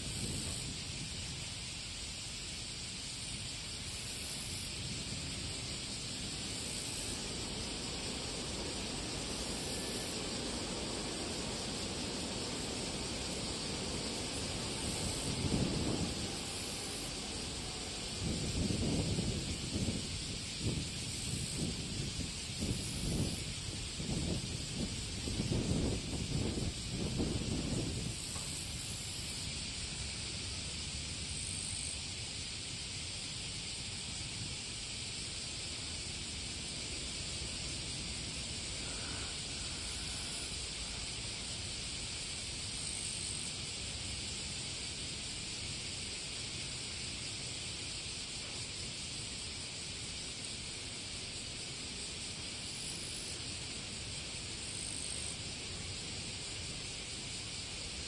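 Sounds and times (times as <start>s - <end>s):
wind rumbling on microphone: 0.0s - 51.0s
steady high hiss: 0.0s - 58.0s.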